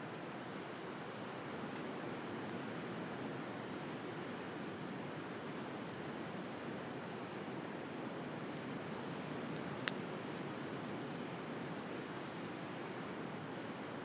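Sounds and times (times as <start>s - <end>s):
bonfire crackling: 1.1s - 13.8s.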